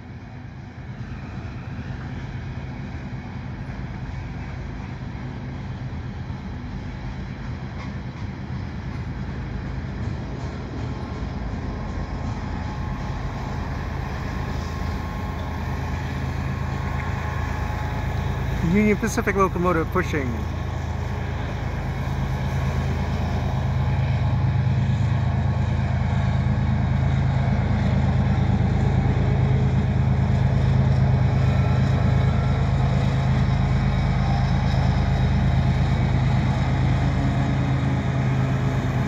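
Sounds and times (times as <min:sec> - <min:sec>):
diesel locomotive drone: 0:00.0 - 0:39.0
train cars rolling on rails: 0:00.0 - 0:39.0.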